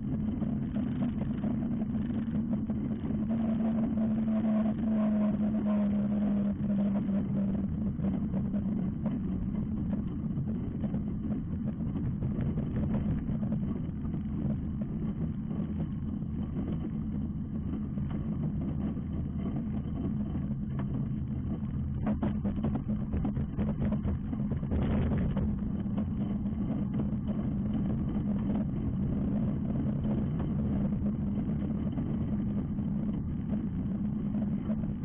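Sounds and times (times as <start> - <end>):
engine and propeller droning: 0.0 - 35.0.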